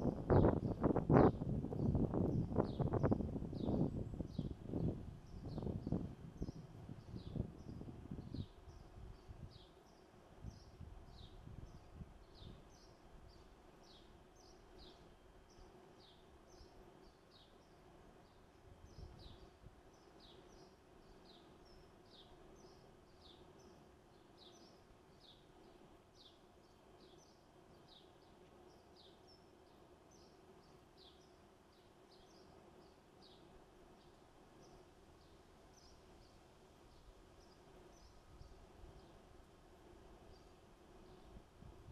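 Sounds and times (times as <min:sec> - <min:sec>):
low steady hum: 0:00.0 - 0:41.9
small bird chirping: 0:00.3 - 0:39.3.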